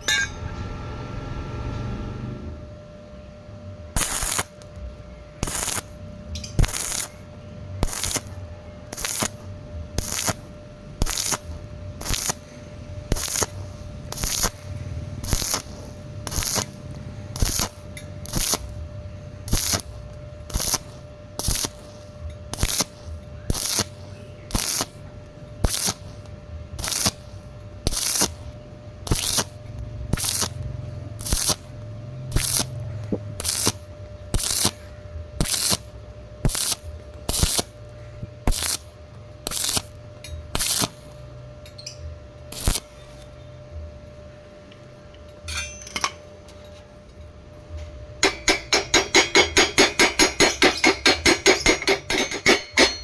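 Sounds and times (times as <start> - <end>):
welding arc crackling hiss: 4.0 - 43.4, 48.2 - 53.0.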